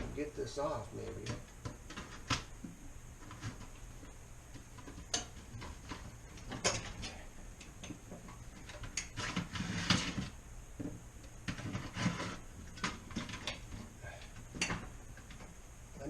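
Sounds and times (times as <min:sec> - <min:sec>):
scraping and rattling: 0:01.0 - 0:15.6.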